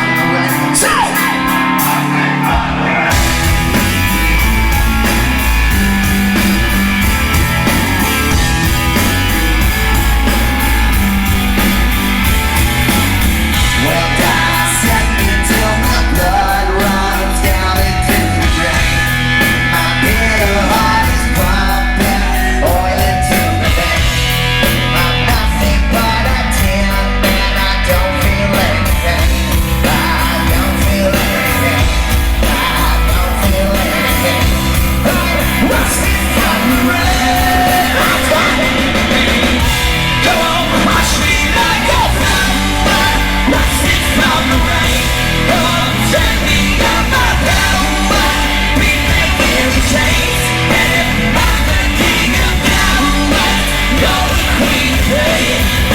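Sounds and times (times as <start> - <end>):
punk rock band playing live: 0.0 - 55.9
singer belting vocals: 0.0 - 55.9.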